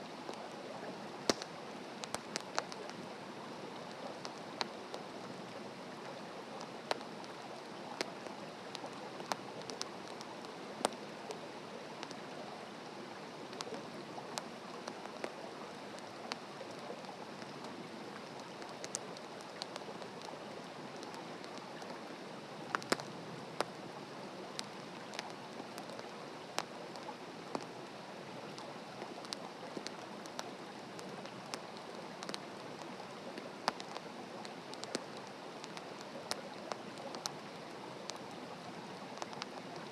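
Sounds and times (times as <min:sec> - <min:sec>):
wood fire crackling and popping: 0:01.2 - 0:03.0, 0:03.7 - 0:05.5, 0:06.5 - 0:12.4, 0:13.4 - 0:23.8, 0:24.4 - 0:39.9.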